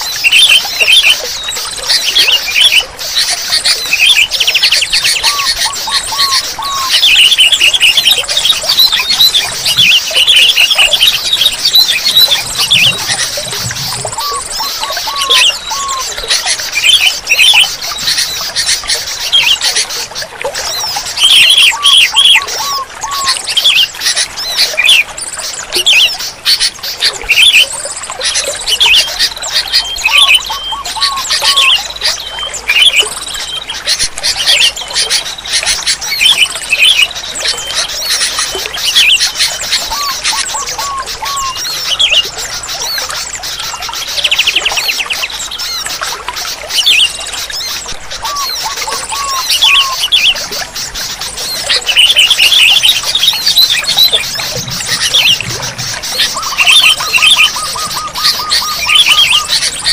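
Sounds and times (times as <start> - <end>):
bulbuls singing: 0.0 - 59.9
chorus of other birds: 0.0 - 59.9.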